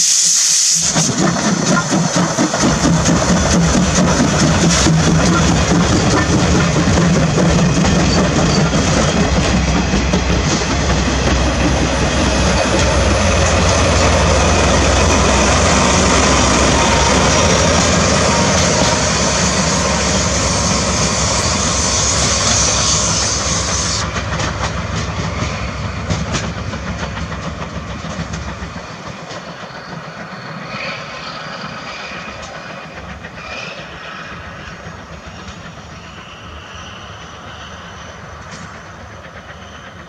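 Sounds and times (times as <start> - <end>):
diesel locomotive engine: 0.0 - 40.0
passing train rushing noise: 0.0 - 40.0.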